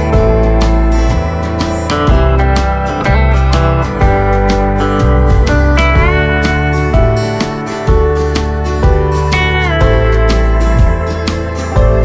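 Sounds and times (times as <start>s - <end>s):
acoustic guitar: 0.0s - 12.0s
slide guitar: 0.0s - 12.0s.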